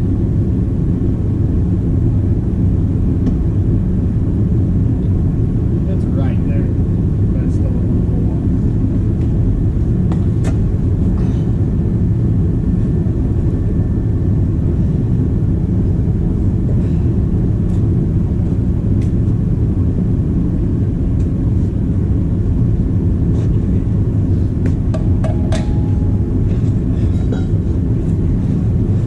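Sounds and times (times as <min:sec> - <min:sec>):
heavy equipment engine running: 0:00.0 - 0:29.0.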